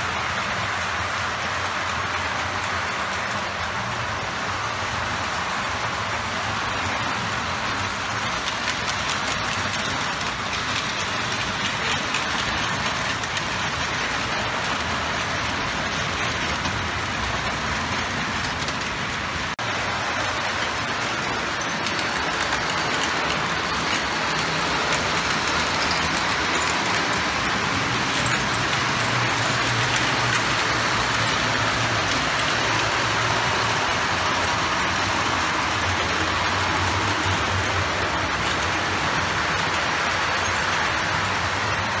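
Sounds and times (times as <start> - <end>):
train wheels rattling over track: 0.0 - 42.0.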